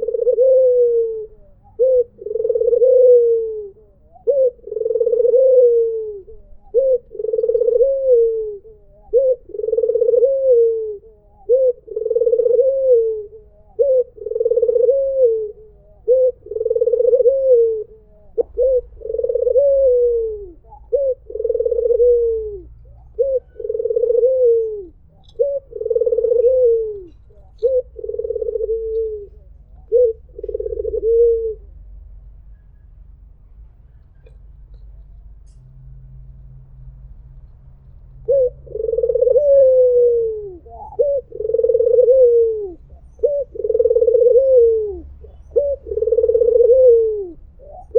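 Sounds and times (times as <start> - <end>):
dove cooing: 0.0 - 32.1, 38.1 - 47.9.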